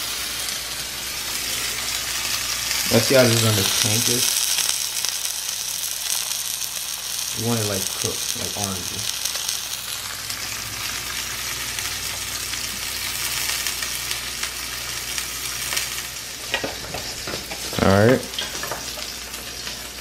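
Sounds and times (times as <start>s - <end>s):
fish sizzling in a pan: 0.0s - 20.0s.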